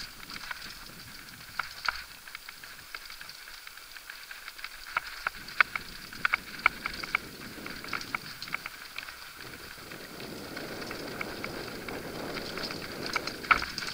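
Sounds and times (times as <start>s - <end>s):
bike clicking and rattling: 0.0s - 13.9s
bike tyres crunching over gravel: 0.0s - 13.9s.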